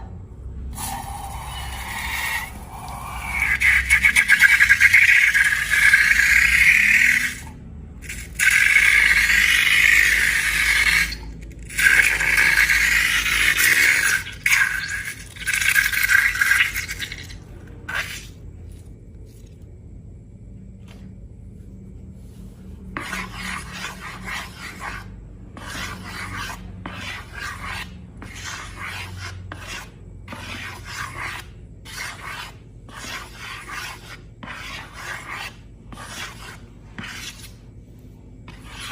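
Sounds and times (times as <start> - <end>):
scraping and rubbing strokes: 0.8 - 19.6, 22.0 - 38.9.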